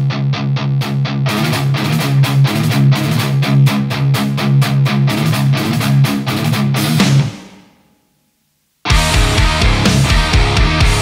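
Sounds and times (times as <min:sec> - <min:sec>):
distorted electric guitar riff: 0:00.0 - 0:07.8, 0:08.8 - 0:11.0.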